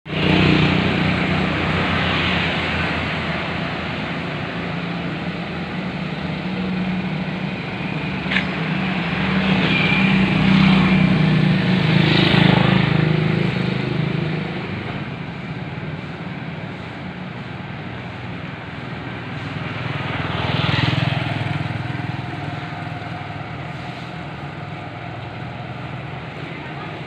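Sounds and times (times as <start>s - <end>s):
motorcycle and traffic hum: 0.1s - 27.0s.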